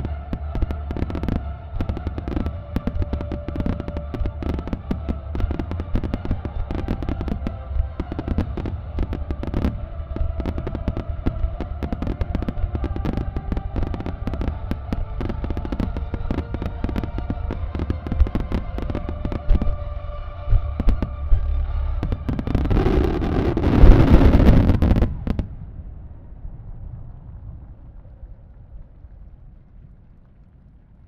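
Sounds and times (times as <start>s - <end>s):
fireworks bangs: 0.0s - 28.4s
deep rumble: 0.0s - 31.0s.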